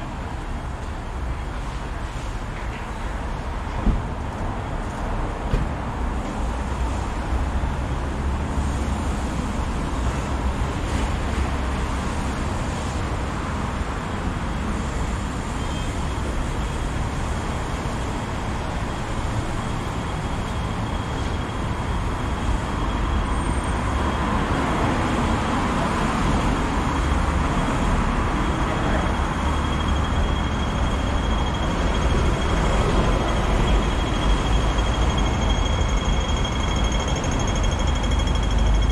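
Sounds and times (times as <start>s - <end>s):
city road traffic: 0.0s - 38.9s.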